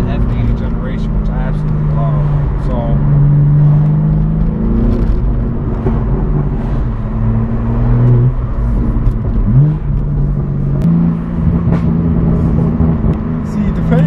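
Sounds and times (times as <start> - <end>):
car engine and exhaust revving: 0.0 - 14.0.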